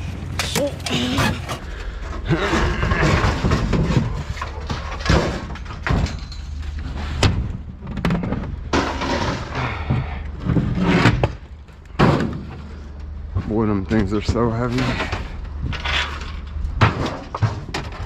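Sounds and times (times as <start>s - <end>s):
metal scraping and clattering: 0.0s - 13.0s, 14.2s - 18.0s
steady low rumble: 0.0s - 18.0s.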